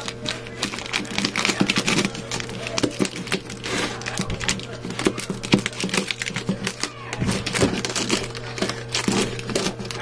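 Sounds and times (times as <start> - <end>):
scissors cutting packing tape: 0.0 - 10.0
tape crackling: 0.0 - 10.0.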